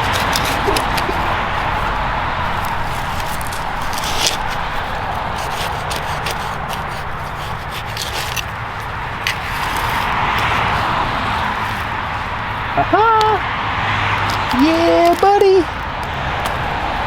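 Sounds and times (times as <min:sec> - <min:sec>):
dirt scraping and crackling: 0:00.0 - 0:17.0.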